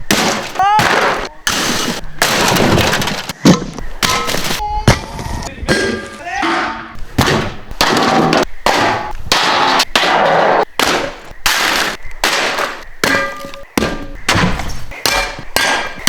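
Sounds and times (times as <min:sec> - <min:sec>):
heavy impacts and crashes: 0:00.0 - 0:05.1, 0:05.7 - 0:16.0.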